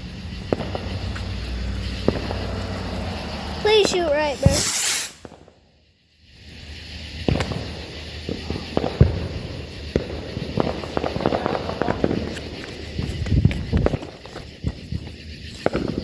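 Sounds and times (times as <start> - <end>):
firework crackling and popping: 0.0 - 16.0.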